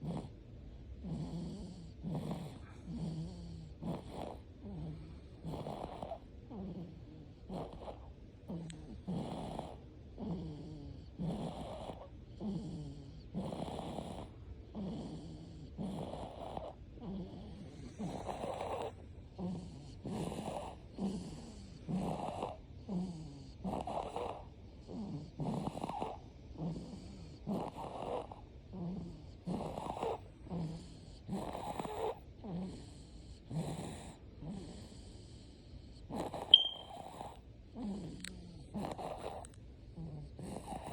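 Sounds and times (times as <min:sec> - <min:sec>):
rhythmic snoring: 0:00.0 - 0:40.9.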